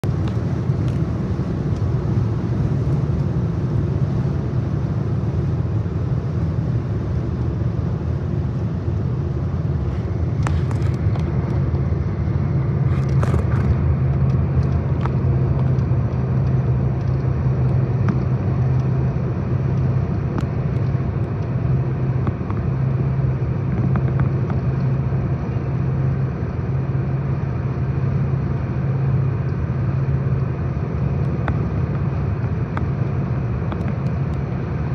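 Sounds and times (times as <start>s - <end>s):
car cabin road noise: 0.0s - 34.9s.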